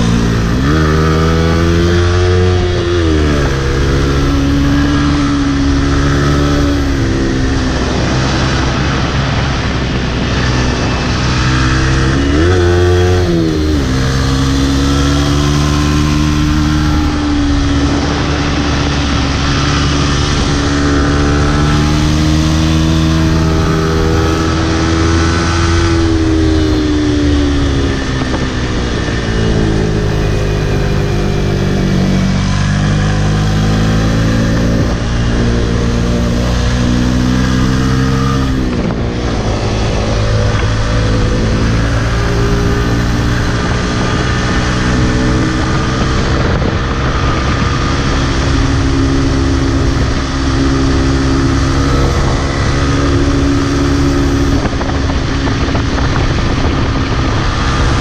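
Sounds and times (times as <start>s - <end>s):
motorcycle engine under throttle: 0.0s - 58.0s.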